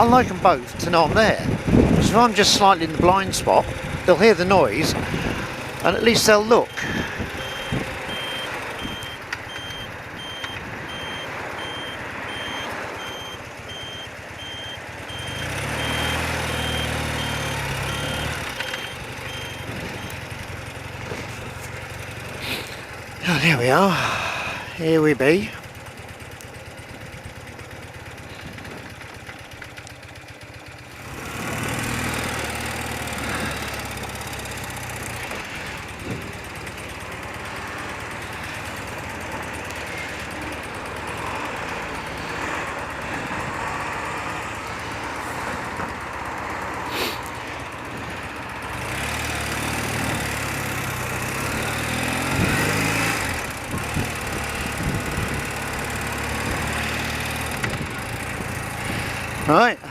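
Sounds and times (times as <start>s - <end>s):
motorcycle engine running: 0.0s - 12.2s, 12.8s - 59.9s.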